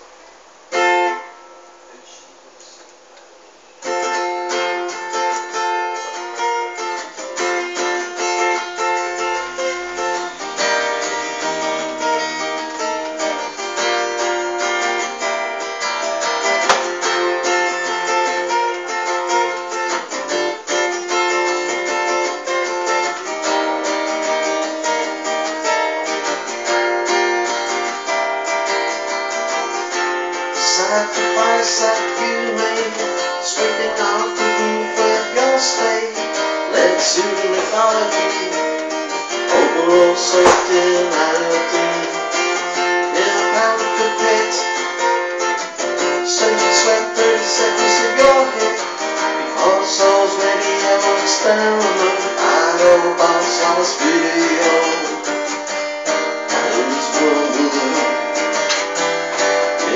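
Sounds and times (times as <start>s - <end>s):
acoustic guitar playing blues: 0.0s - 59.9s.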